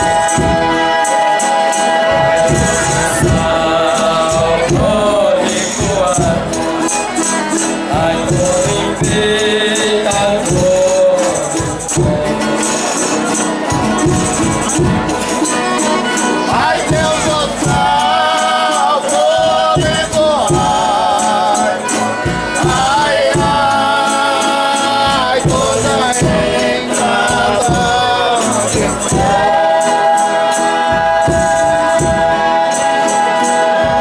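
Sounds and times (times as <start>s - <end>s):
people chanting in harmony: 0.0s - 34.0s
tambourine shaken and struck: 0.0s - 34.0s.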